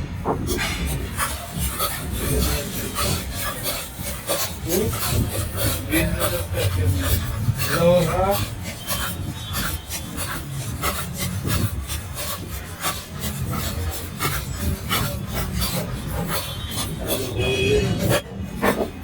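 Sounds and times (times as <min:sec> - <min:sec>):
spoon scraping a bowl: 0:00.5 - 0:19.0.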